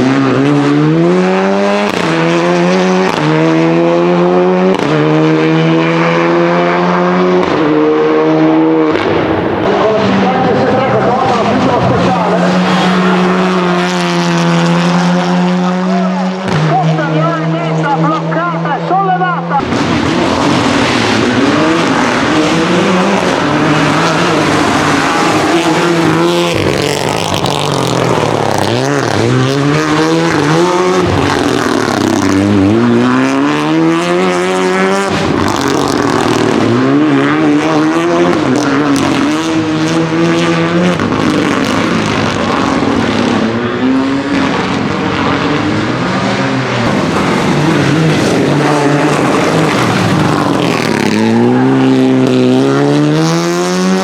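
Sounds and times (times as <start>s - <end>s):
rally car engine revving hard: 0.0s - 54.0s.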